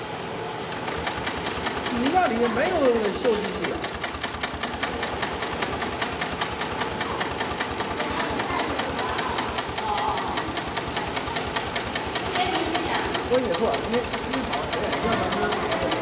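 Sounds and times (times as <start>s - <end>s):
sewing machine clatter: 0.7s - 16.0s.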